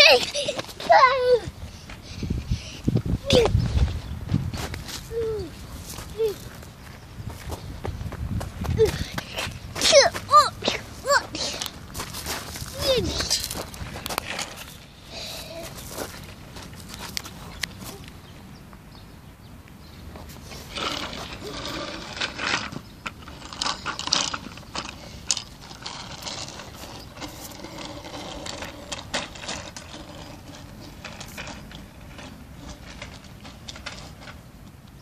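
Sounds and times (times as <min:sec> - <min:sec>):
plastic tricycle rattling: 0:00.0 - 0:06.7, 0:08.2 - 0:18.1, 0:20.2 - 0:35.0.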